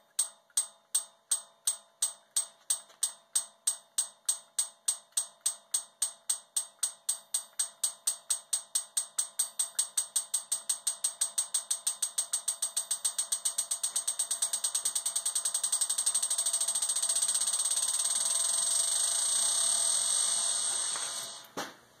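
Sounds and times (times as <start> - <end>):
steel ball bouncing on anvil: 0.0 - 21.5.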